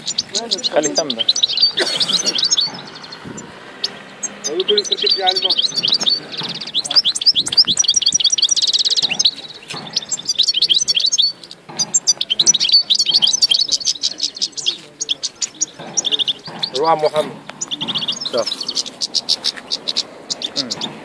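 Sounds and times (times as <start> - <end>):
bird twittering with buzzy trills: 0.0 - 21.0.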